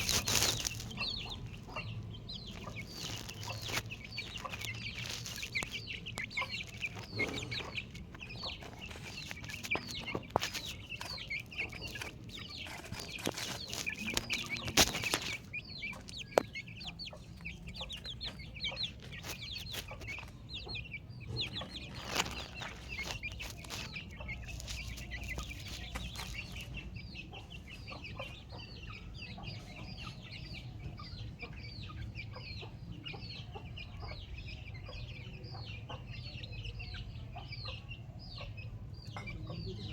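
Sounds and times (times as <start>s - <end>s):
chickens clucking and chirping: 0.0s - 39.9s.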